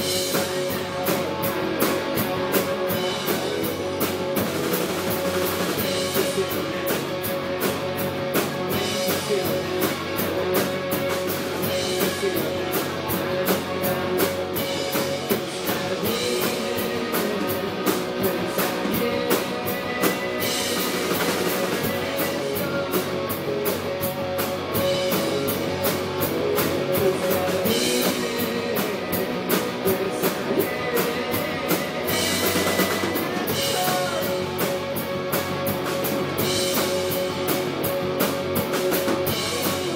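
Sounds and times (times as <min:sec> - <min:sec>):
drum kit beat: 0:00.0 - 0:39.9
electric bass: 0:00.0 - 0:39.9
electric guitars: 0:00.0 - 0:39.9.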